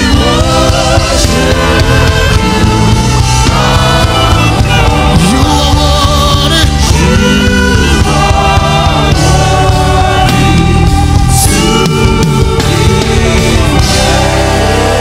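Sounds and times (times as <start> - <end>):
gospel band playing: 0.0 - 15.0
people singing: 0.0 - 15.0.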